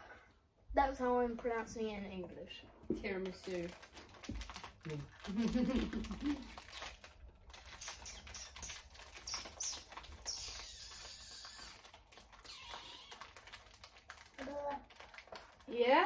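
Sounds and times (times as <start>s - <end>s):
plastic wrapper crinkling: 3.1s - 16.0s.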